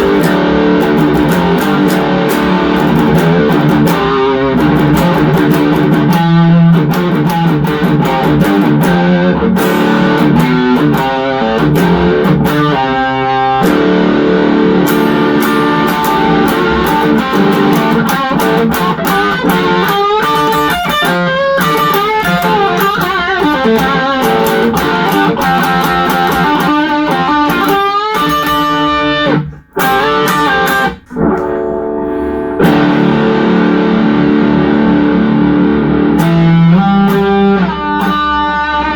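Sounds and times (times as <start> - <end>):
distorted electric guitar riffs: 0.0 - 38.9.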